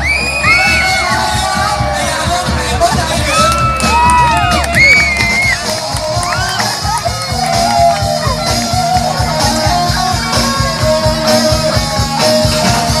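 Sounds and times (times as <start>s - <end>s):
fast drum beat: 0.0s - 13.0s
bending guitar-like lead melody: 0.8s - 13.0s.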